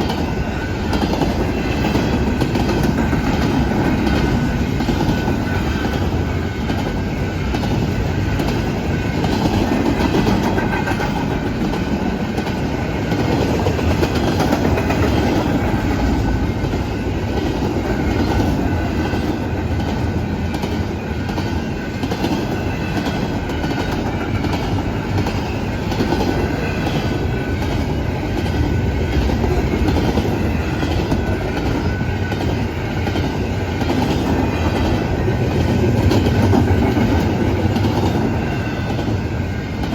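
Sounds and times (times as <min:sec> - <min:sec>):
freight train wheels rumbling: 0:00.0 - 0:39.9
wheels clicking over rail joints: 0:00.0 - 0:39.9.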